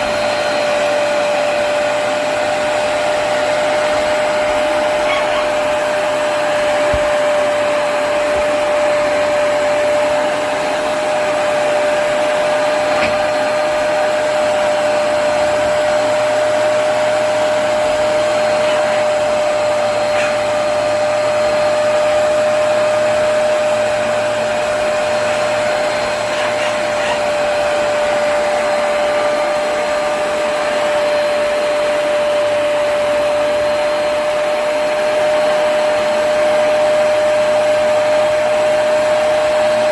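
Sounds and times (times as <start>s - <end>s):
carpet cleaner motor running: 0.0s - 39.9s.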